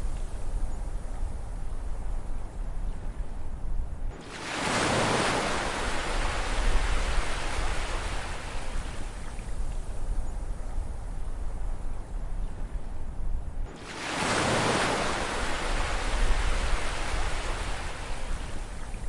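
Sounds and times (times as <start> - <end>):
low rumble of the sea: 0.0 - 19.0.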